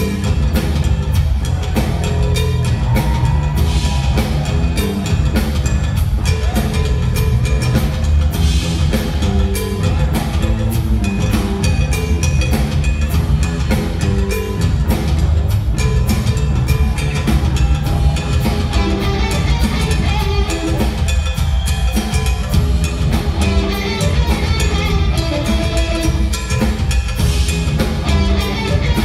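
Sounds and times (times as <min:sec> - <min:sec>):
distorted electric guitars: 0:00.0 - 0:29.0
drum kit beat: 0:00.0 - 0:29.0
heavy bass: 0:00.0 - 0:29.0.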